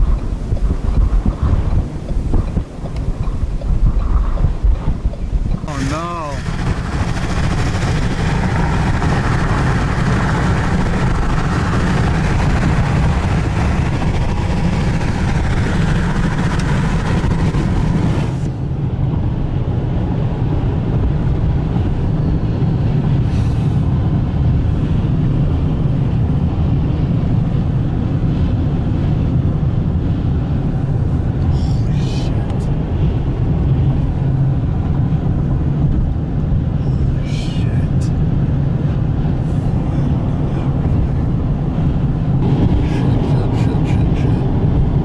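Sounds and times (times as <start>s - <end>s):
tyres rumbling on pavement: 0.0s - 37.2s, 37.9s - 45.0s
wind hiss: 0.0s - 45.0s.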